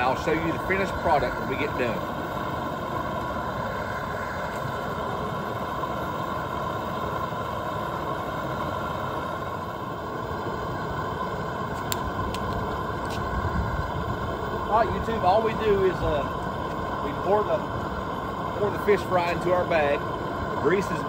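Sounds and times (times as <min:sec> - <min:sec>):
gas burner roaring: 0:00.0 - 0:21.0.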